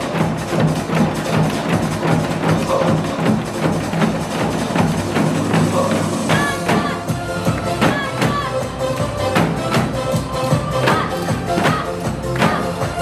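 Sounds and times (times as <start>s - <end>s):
drums struck in quick rhythm: 0.0s - 13.0s
recorded backing song: 0.0s - 13.0s.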